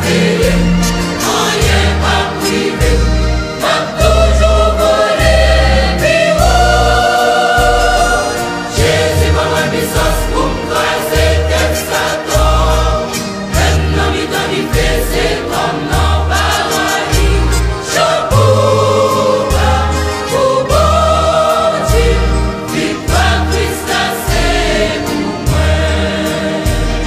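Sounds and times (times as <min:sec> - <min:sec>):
gospel choir singing: 0:00.0 - 0:27.0.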